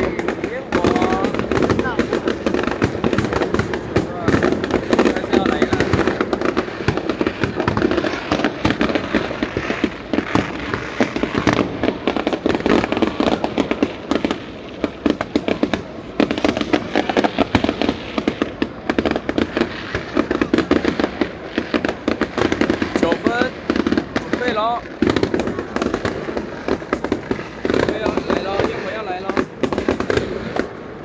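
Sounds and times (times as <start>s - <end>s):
fireworks crackling: 0.0s - 31.0s.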